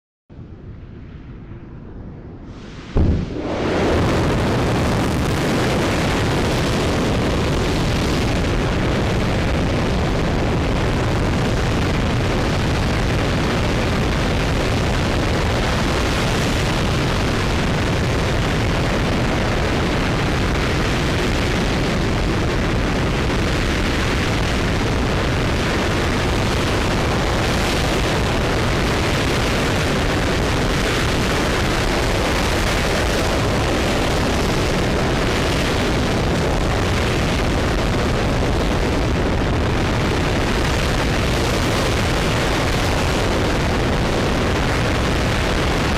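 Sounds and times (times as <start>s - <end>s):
rocket engine roaring: 0.4s - 45.9s.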